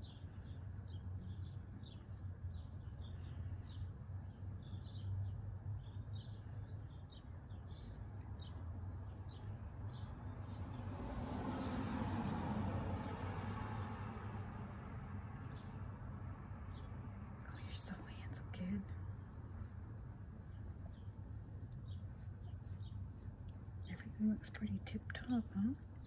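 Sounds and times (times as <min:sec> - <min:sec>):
birds chirping: 0:00.0 - 0:11.0, 0:15.3 - 0:26.0
low steady hum: 0:00.0 - 0:26.0.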